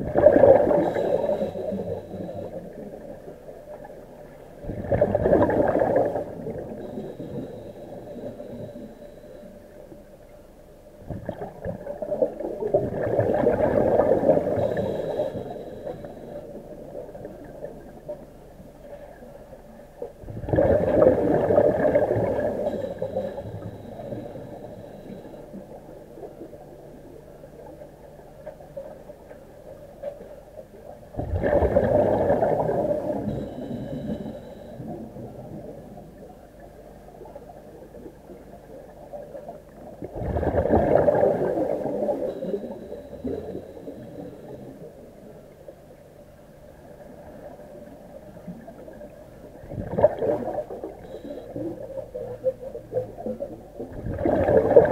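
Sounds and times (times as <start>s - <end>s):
underwater bubbles gushing: 0.0s - 8.9s, 11.0s - 18.3s, 19.0s - 27.8s, 30.8s - 46.0s, 46.8s - 54.9s
faint steady hum: 0.0s - 54.9s.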